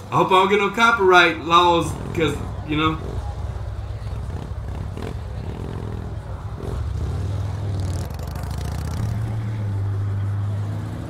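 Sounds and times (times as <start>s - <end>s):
motorcycle and car engines running: 0.0s - 11.0s.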